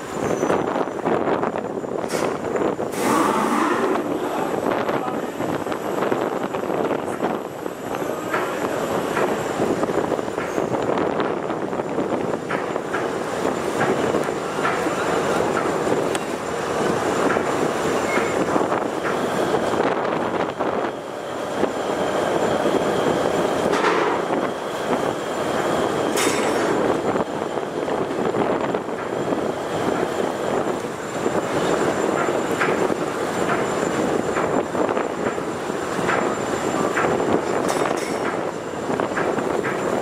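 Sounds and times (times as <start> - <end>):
wind rushing: 0.0 - 37.8.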